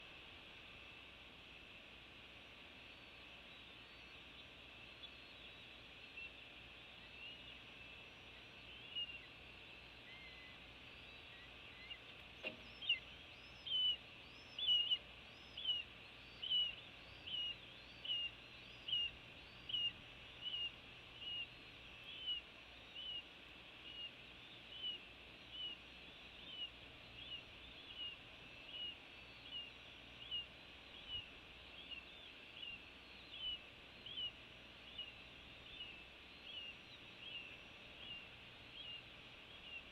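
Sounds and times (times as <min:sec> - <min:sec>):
bird chirping high: 0:05.0 - 0:39.9.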